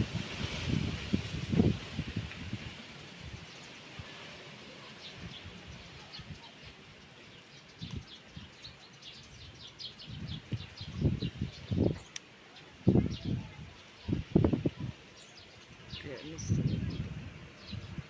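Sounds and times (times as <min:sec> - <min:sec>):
wind gusts buffeting microphone: 0:00.0 - 0:07.0, 0:07.8 - 0:18.0
wind blowing through trees: 0:00.0 - 0:18.0
small birds chirping: 0:00.3 - 0:18.0.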